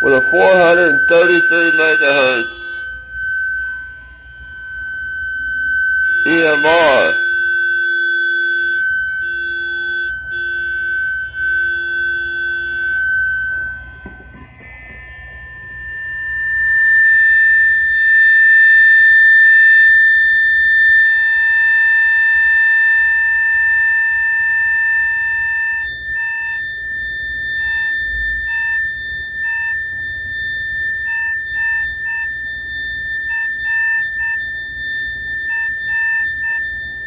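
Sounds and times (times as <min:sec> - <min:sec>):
guitar amplifier feedback whistling: 0:00.0 - 0:37.0
lower pulsing tone: 0:00.0 - 0:37.0.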